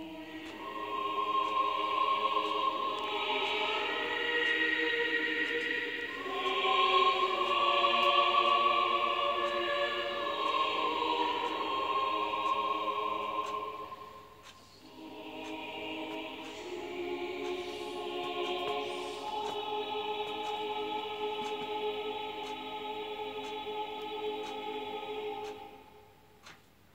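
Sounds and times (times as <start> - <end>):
choir singing long chords: 0.0 - 26.4.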